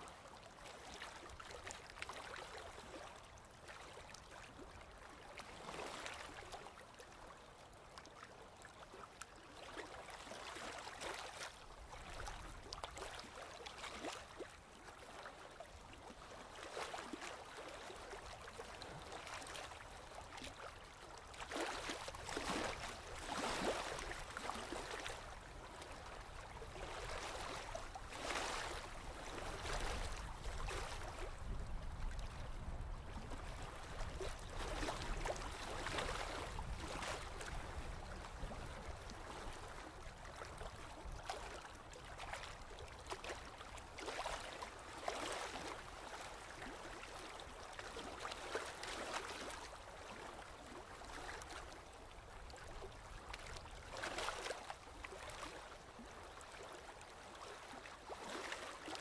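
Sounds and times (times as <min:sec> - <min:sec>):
waves lapping and splashing: 0:00.0 - 0:59.0.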